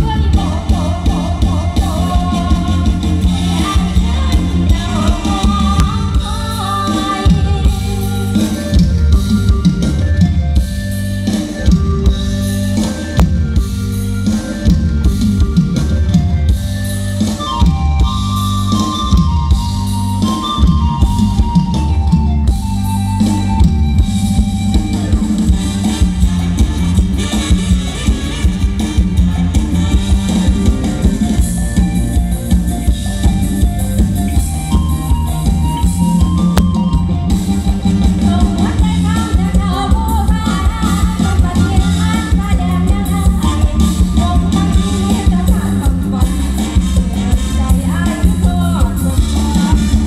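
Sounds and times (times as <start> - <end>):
melody line: 0.0 - 46.4
drum kit beating: 0.0 - 50.0
heavy bass: 0.0 - 50.0
live band music: 0.0 - 50.0.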